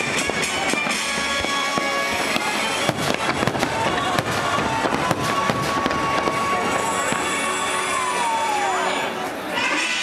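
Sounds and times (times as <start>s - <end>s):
fireworks bangs and crackles: 0.0s - 9.0s
music playing: 0.0s - 10.0s.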